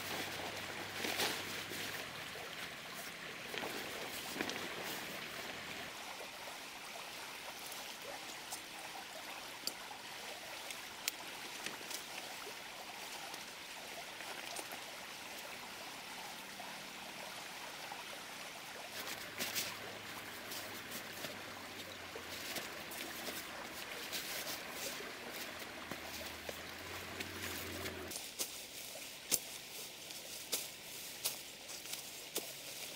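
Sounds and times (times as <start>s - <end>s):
stream running: 0.0s - 32.9s.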